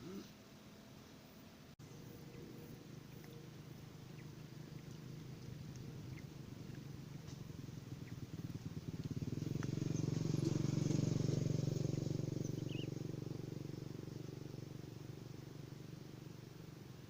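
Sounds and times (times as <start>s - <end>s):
small engine drone: 1.8s - 17.0s.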